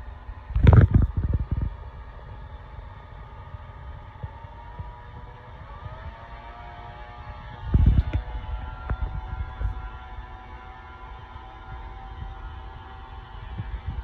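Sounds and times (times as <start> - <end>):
milling machine whine: 0.0 - 14.0.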